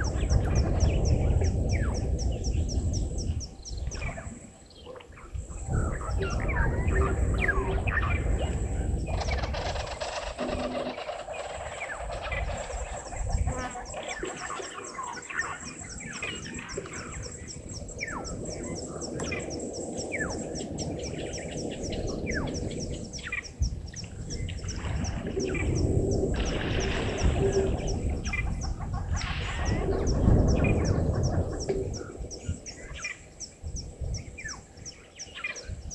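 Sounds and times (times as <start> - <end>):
birds whistling: 0.0 - 35.7.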